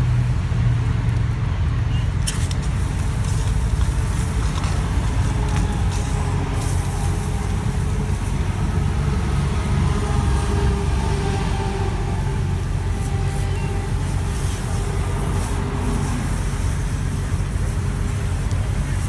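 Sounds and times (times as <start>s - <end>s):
highway traffic rumble: 0.0s - 19.0s
truck engine: 0.0s - 19.0s.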